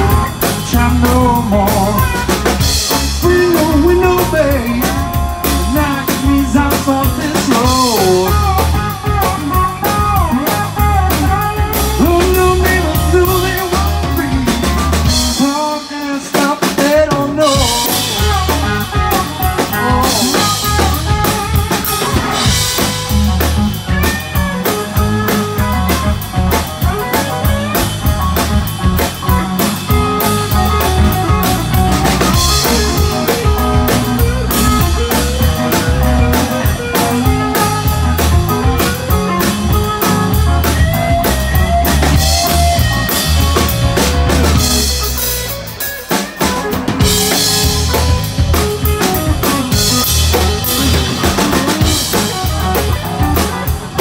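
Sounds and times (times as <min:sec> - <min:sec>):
drum kit beat: 0:00.0 - 0:54.0
electric bass: 0:00.0 - 0:54.0
electric guitar lead: 0:00.0 - 0:54.0.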